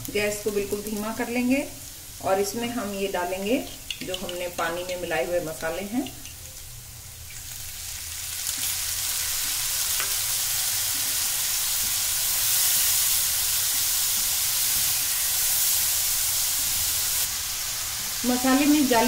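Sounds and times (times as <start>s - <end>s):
spice paste sizzling in pan: 0.0s - 19.0s.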